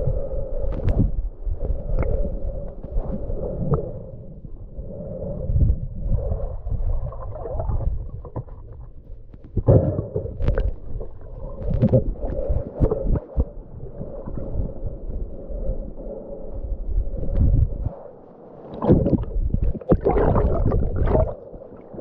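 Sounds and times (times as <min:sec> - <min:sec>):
underwater river rumbling: 0:00.0 - 0:22.0.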